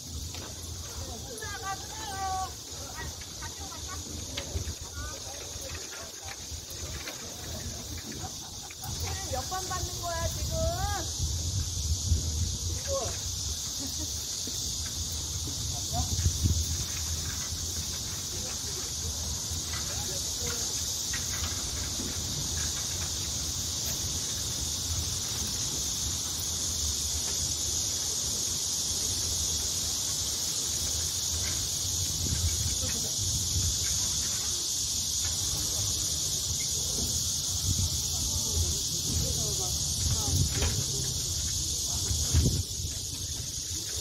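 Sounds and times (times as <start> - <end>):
insect chorus buzzing: 0.0 - 44.0.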